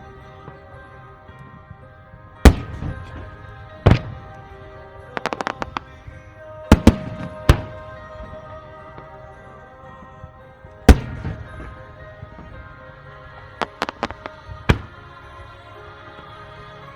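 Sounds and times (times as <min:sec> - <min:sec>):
fireworks bursting: 0:00.0 - 0:16.4
background music: 0:00.0 - 0:16.9.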